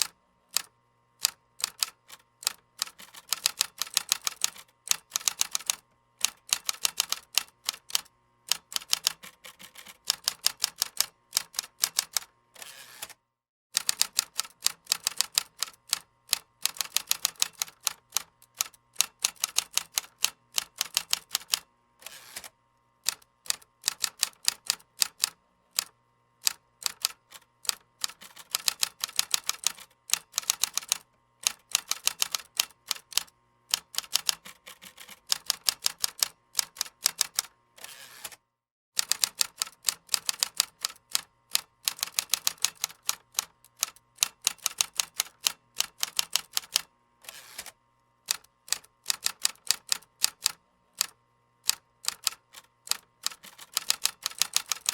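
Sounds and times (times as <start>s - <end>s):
typing on computer keyboard: 0.0s - 12.3s, 13.8s - 21.7s, 23.1s - 37.5s, 39.0s - 47.7s, 48.3s - 54.9s.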